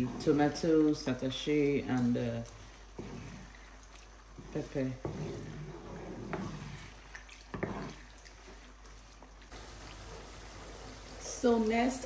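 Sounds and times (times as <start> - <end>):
food frying in oil: 0.0 - 12.0
wooden spatula scraping pan: 0.0 - 12.0.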